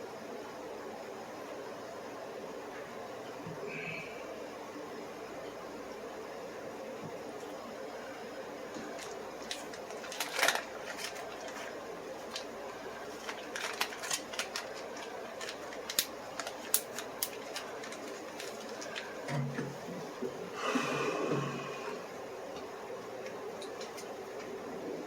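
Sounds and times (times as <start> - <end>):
steady room hum: 0.0 - 25.0.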